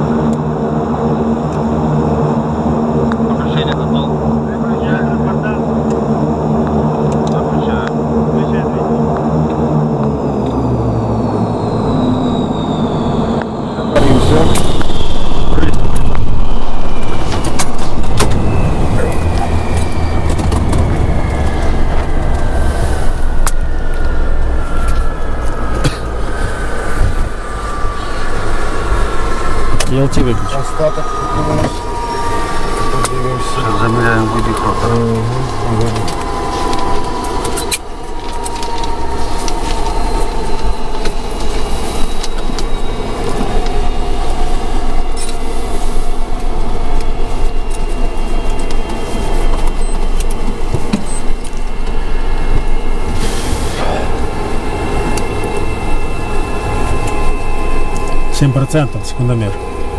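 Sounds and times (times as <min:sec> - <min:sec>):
low rumble: 0:00.0 - 0:59.9
turboprop engines droning: 0:00.0 - 0:59.9.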